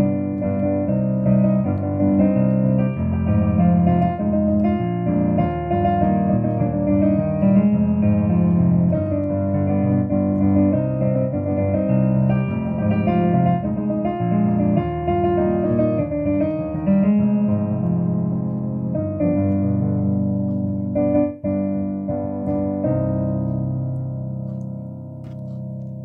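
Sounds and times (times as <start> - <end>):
piano playing chords: 0.0 - 26.0.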